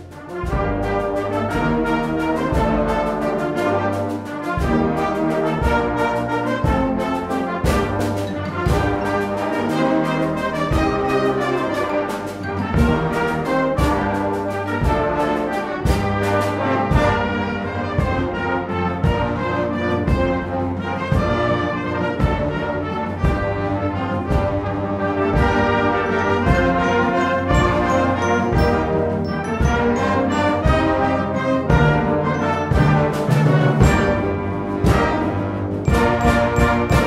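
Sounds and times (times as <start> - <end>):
brass band playing: 0.0 - 37.0.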